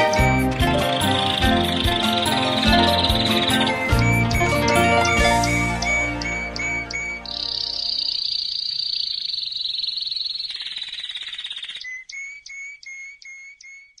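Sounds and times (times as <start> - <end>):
canary singing trills and chirps: 0.0 - 14.0.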